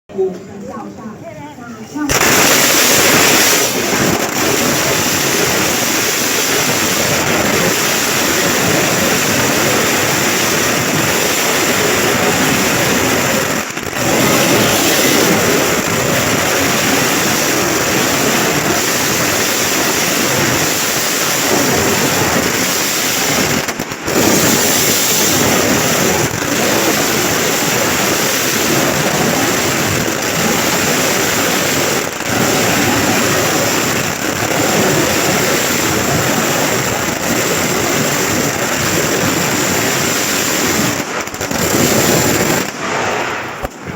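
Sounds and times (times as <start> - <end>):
firecrackers crackling: 0.2 - 43.9.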